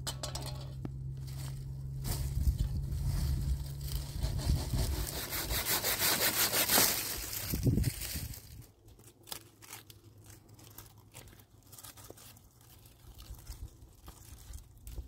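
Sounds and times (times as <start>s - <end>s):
dry twigs crunching and snapping: 0.1s - 4.1s, 6.7s - 15.0s.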